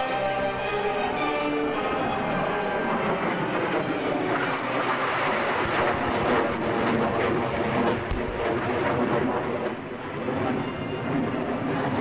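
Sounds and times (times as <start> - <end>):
jet roar overhead: 0.0 - 12.0.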